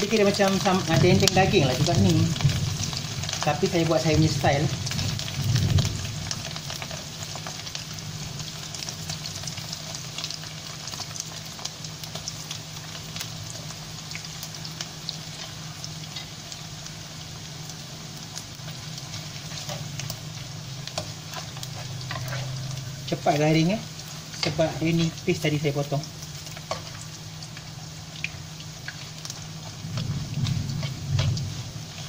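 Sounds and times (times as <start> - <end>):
meat deep-frying in oil: 0.0 - 32.0.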